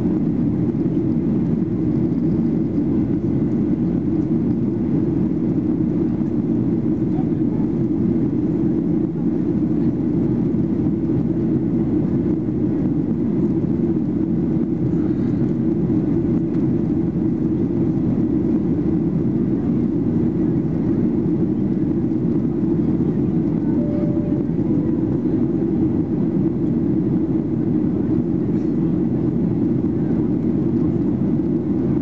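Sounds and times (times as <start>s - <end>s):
airplane cabin drone: 0.0s - 32.0s.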